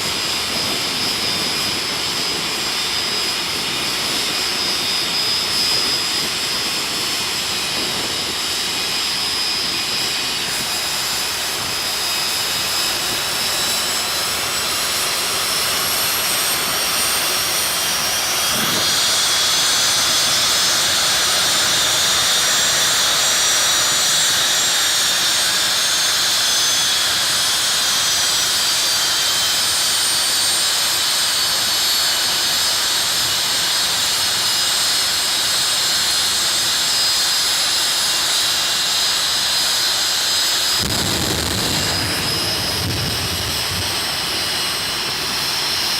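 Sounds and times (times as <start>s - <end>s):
jet engine turbine whine: 0.0s - 45.9s.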